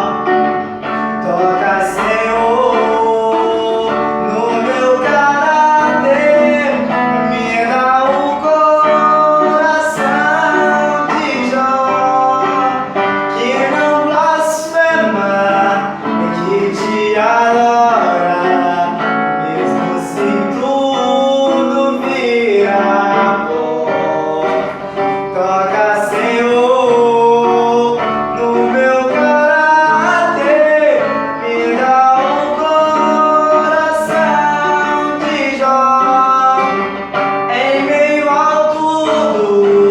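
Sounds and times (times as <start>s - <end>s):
guitar accompaniment: 0.0s - 39.9s
man singing gospel song: 0.0s - 39.9s.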